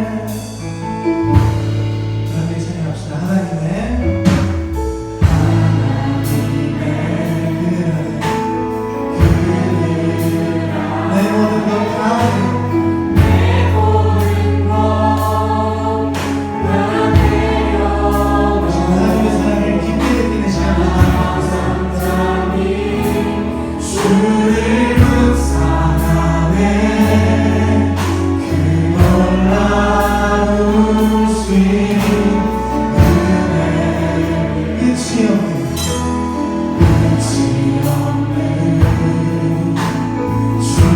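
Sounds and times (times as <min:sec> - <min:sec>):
band playing: 0:00.0 - 0:40.9
group singing worship song: 0:00.0 - 0:40.9
drums steady beat: 0:01.2 - 0:03.6, 0:04.2 - 0:40.9.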